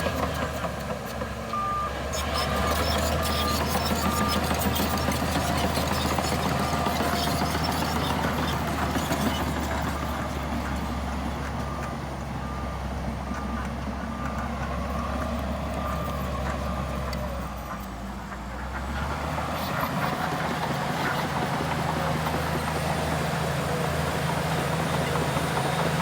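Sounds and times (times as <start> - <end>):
diesel machinery droning: 0.0 - 26.0.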